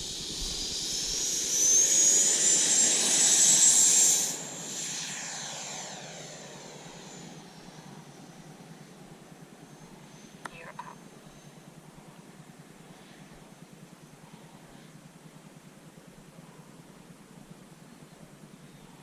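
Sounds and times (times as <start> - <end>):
electric ducted fan whine: 0.0 - 19.0.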